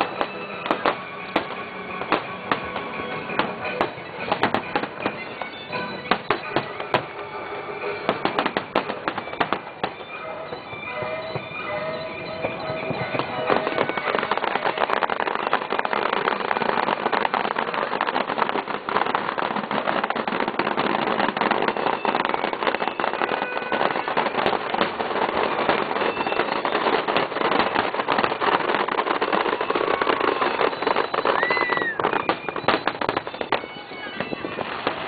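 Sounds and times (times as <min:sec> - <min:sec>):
fireworks popping and crackling: 0:00.0 - 0:35.0.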